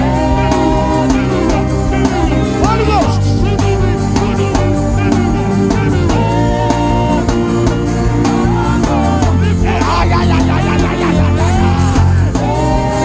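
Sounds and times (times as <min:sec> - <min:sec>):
people singing: 0:00.0 - 0:13.0
worship band music: 0:00.0 - 0:13.0.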